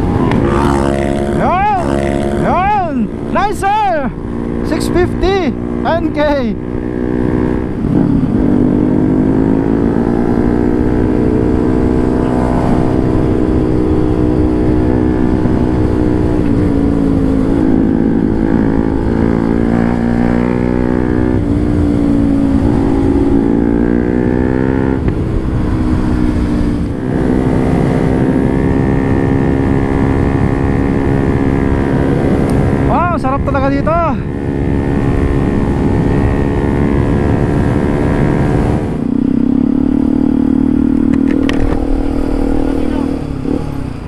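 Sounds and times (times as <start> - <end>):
motorcycle engine revving: 0.0 - 44.0
wind and road noise: 0.0 - 44.0.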